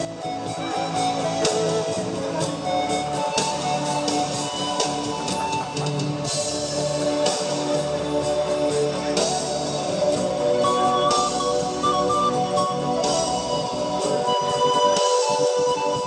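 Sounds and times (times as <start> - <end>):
panpipe held notes: 0.0 - 16.0.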